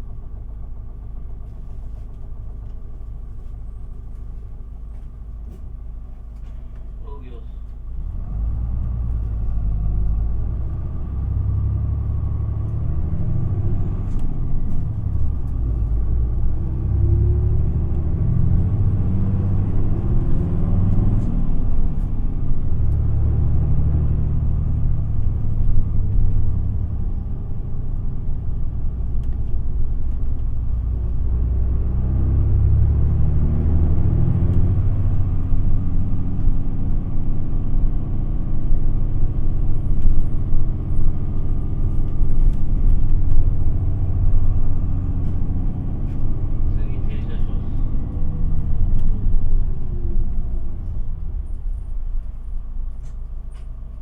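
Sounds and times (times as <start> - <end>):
bus diesel engine drone: 0.0 - 54.0
road and tyre rumble: 0.0 - 54.0.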